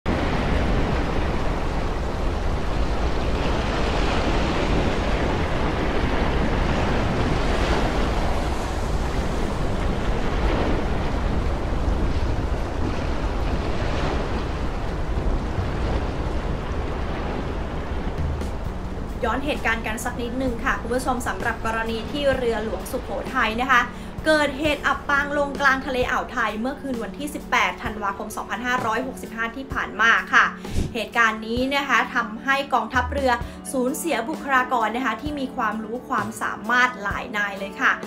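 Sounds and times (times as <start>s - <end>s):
wind buffeting microphone: 0.1s - 31.8s
waves breaking over deck: 0.1s - 38.0s.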